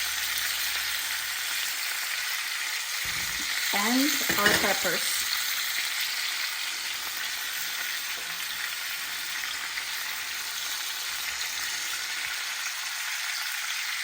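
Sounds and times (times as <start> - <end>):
meat and vegetables sizzling in pan: 0.0 - 14.0.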